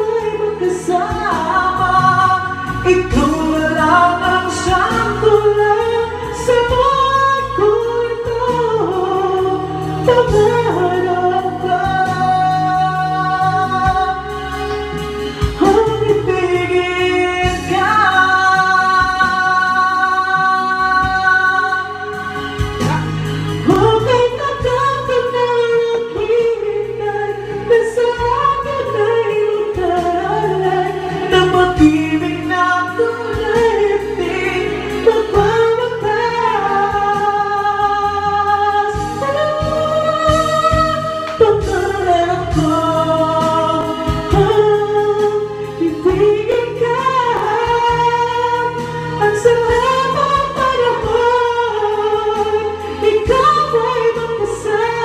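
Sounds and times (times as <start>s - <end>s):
karaoke backing track: 0.0s - 55.0s
man singing into microphone: 0.0s - 55.0s.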